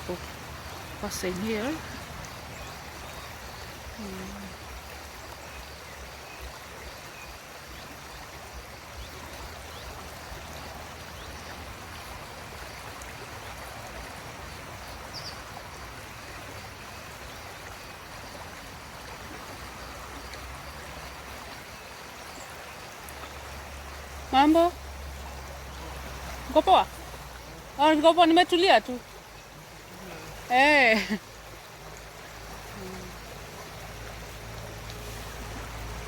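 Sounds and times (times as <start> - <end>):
river flowing: 0.0 - 36.0.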